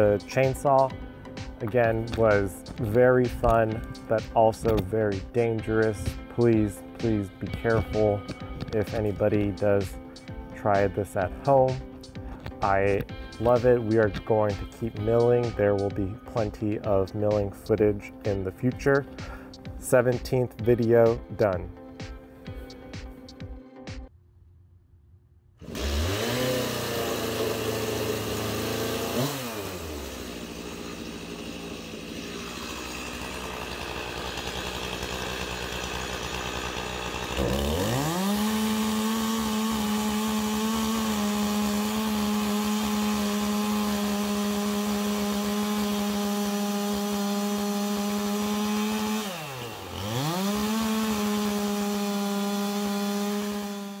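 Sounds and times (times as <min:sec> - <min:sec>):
chainsaw revving and idling: 0:00.0 - 0:22.2, 0:25.6 - 0:54.0
chainsaw cutting through log: 0:00.0 - 0:22.3, 0:25.6 - 0:54.0.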